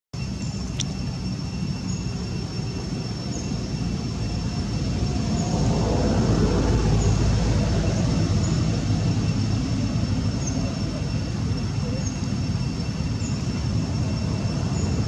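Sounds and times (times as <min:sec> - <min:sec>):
passing motor traffic rumble: 0:00.2 - 0:15.0.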